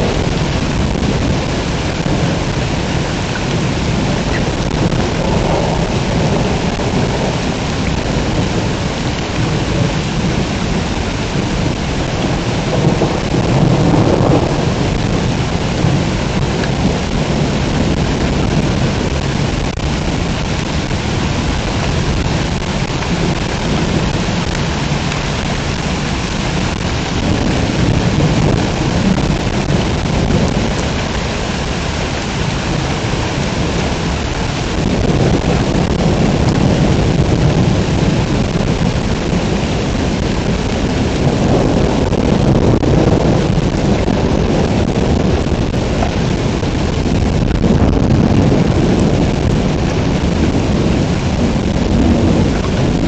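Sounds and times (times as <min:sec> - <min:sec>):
heavy rain pouring: 0:00.0 - 0:53.0
thunder rumbling: 0:00.0 - 0:53.0.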